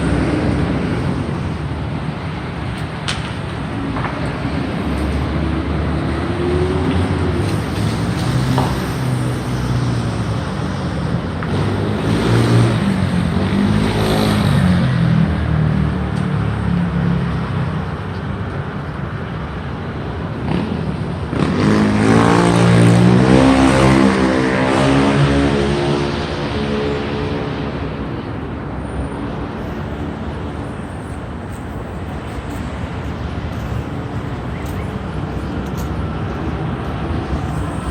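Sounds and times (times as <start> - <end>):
rumble of traffic: 0.0 - 37.9
street noise: 0.0 - 37.9
vehicle engine: 0.0 - 37.9.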